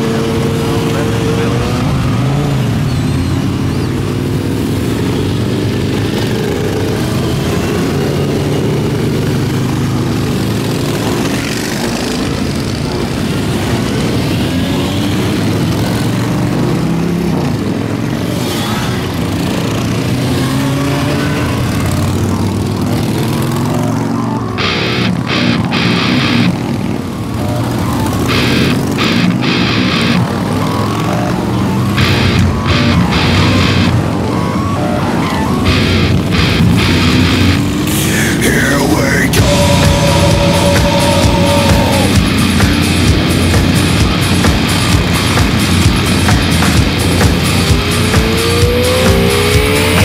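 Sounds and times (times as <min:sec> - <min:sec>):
motorcycles riding past: 0:00.0 - 0:50.0.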